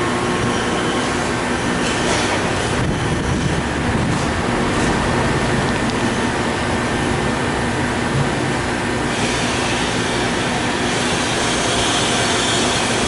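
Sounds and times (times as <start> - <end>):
bag-making machine running: 0.0 - 13.0.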